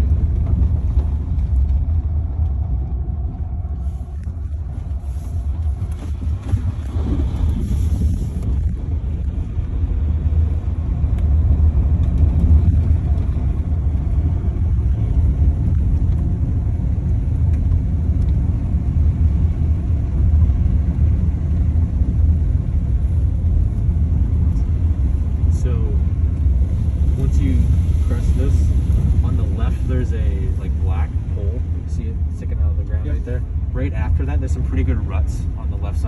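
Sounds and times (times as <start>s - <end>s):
tyres rumbling on dirt road: 0.0s - 36.0s.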